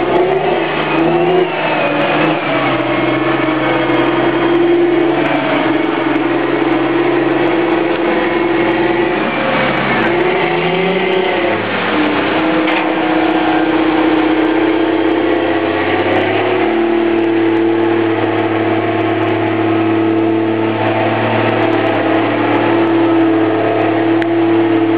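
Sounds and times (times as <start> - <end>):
engine whine: 0.0 - 24.9
tractor diesel engine under load: 0.0 - 24.9.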